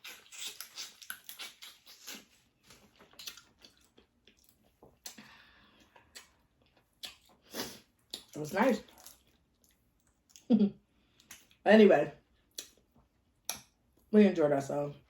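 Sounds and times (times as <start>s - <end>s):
person chewing wetly: 0.0s - 11.6s, 12.3s - 14.1s.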